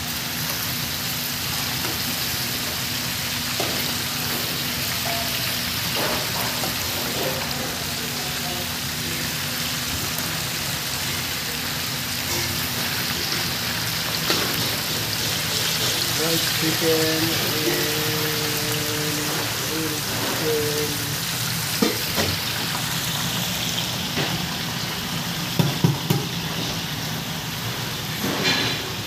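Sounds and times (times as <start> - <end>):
oil sizzling in fryer: 0.0 - 29.0.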